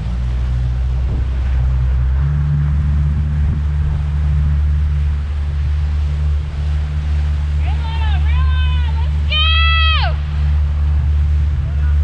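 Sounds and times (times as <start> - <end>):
outboard motor droning: 0.0 - 12.0
water rushing along hull: 0.0 - 12.0
wind buffeting microphone: 0.0 - 12.0.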